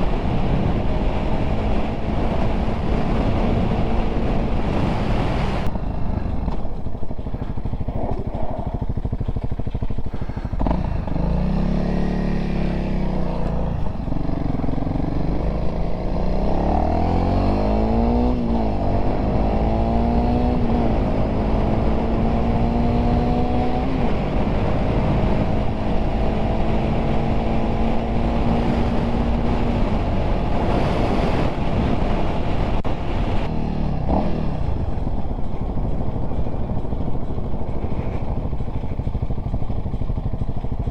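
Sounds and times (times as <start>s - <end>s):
wind rushing over microphone: 0.0s - 40.3s
motorcycle accelerating through gears: 0.0s - 40.9s.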